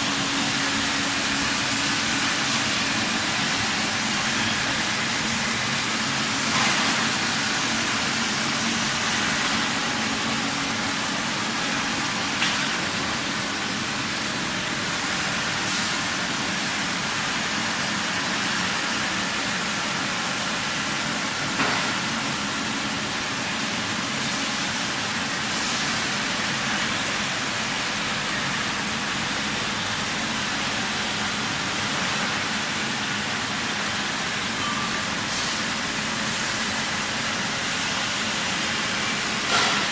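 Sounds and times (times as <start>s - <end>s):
machinery hiss: 0.0s - 39.9s.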